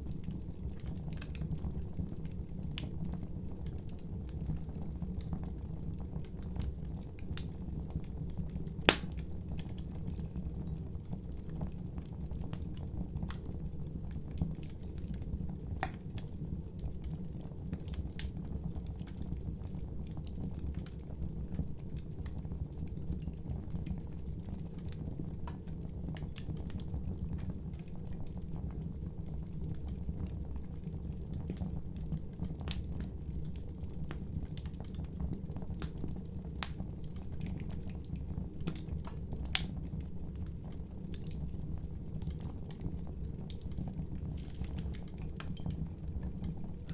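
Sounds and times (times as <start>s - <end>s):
fire crackles and pops: 0.0s - 46.9s
low rumble of flame: 0.0s - 46.9s.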